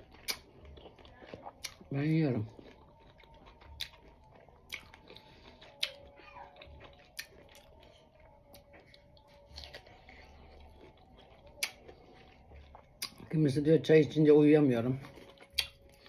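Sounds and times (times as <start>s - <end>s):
chewing fruit: 0.0s - 16.0s.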